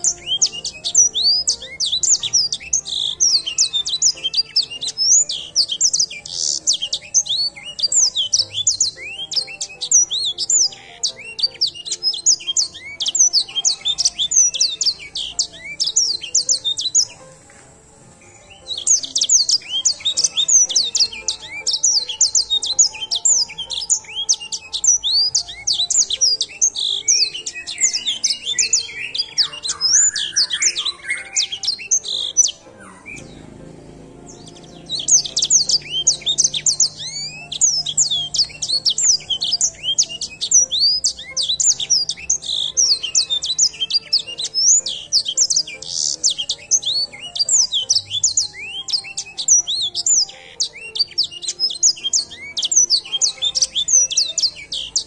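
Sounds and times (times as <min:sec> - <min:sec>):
low bird warbling: 0:00.0 - 0:17.2, 0:18.4 - 0:55.0
canary chirping and trilling: 0:00.0 - 0:55.0.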